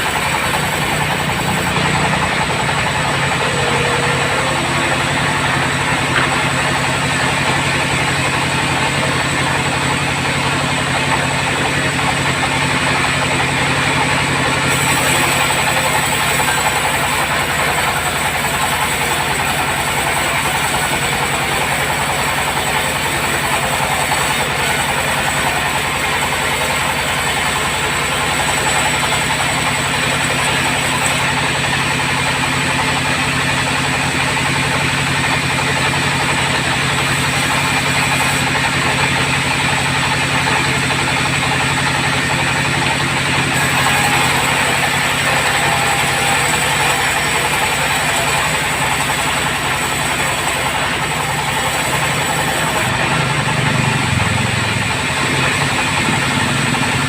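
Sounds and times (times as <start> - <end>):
band sawmill droning: 0.0 - 57.0.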